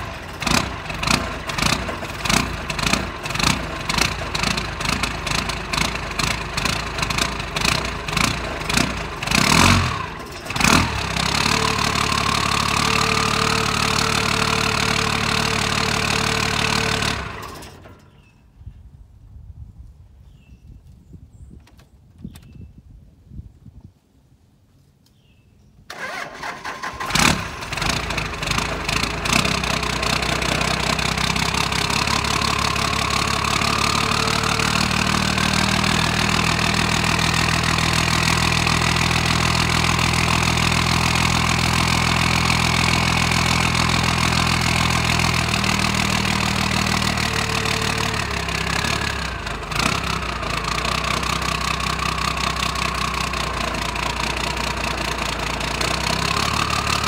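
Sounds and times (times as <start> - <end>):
diesel engine cranking and idling: 0.0 - 18.3, 25.9 - 57.0.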